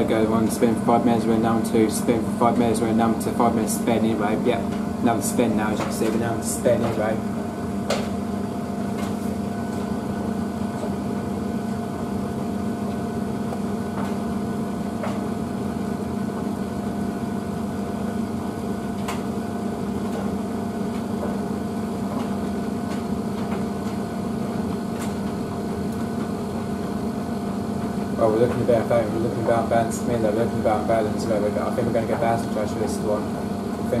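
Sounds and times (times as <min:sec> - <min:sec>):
washing machine hum: 0:00.0 - 0:34.0.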